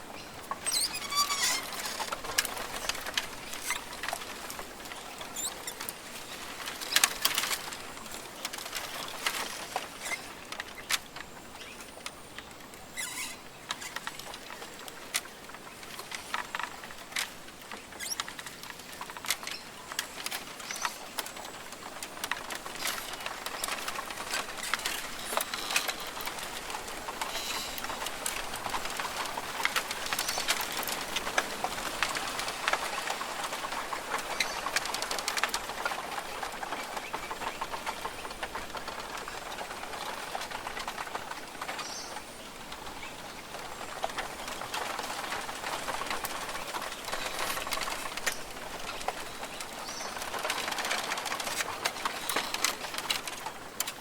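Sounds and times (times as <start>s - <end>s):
crackling and ticking: 0.2s - 54.0s.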